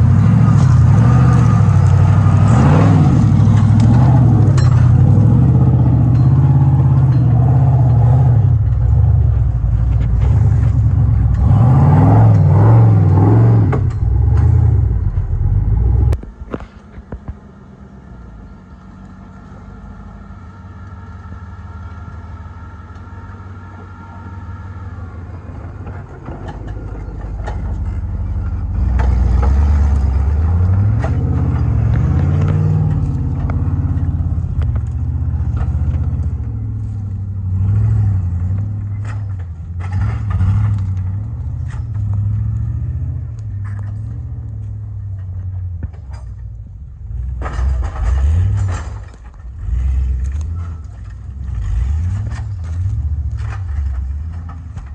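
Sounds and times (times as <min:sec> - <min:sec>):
knocks and clatter: 0:00.0 - 0:17.4, 0:25.6 - 0:54.9
off-road vehicle engine revving: 0:00.0 - 0:54.9.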